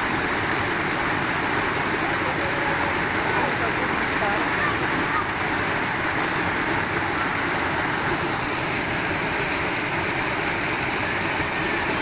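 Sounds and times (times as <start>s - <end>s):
rushing flowing water: 0.0s - 12.0s.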